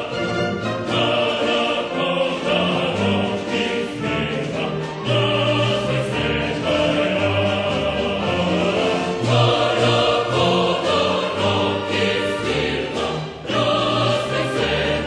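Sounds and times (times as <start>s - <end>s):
choral singing with music: 0.0s - 15.0s.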